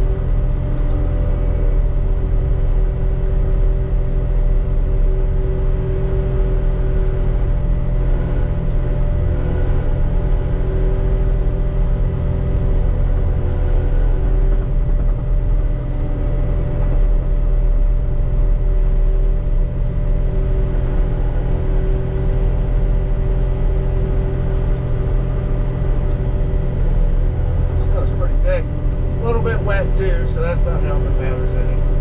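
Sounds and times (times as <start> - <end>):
diesel engine rumbling under load: 0.0 - 32.0
hydraulics and mower hum: 0.0 - 32.0.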